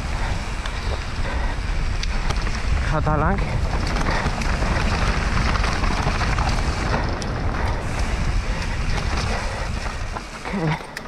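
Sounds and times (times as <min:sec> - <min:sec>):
wind over microphone: 0:00.0 - 0:10.8
bike tyres on dirt trail: 0:00.0 - 0:11.0.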